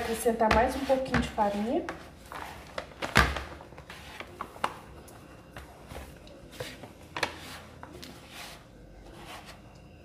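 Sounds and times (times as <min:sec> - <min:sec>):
hands kneading dough: 0:00.0 - 0:09.9.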